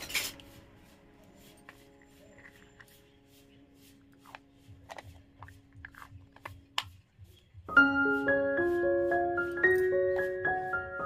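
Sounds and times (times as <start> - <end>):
bright background music: 0.0 - 7.0, 7.6 - 11.0.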